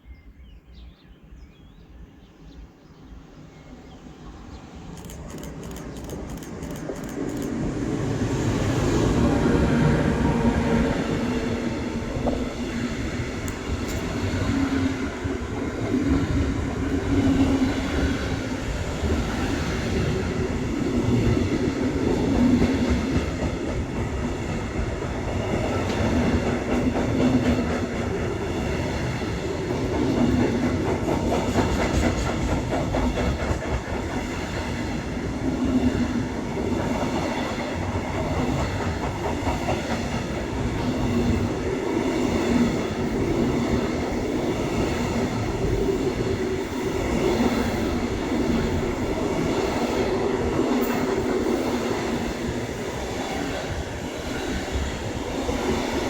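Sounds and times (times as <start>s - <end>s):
train wheels clattering on rails: 11.1s - 56.0s.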